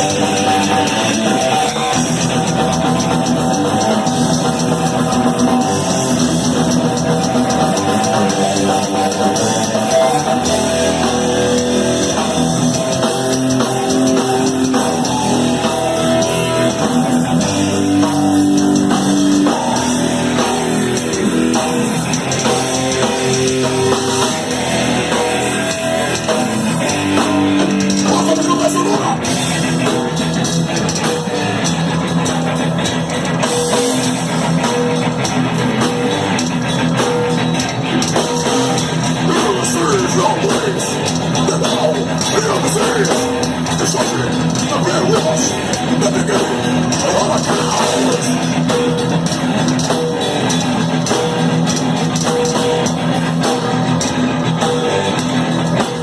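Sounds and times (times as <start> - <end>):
distorted electric guitars: 0.0 - 56.0
fast drum kit: 0.0 - 56.0.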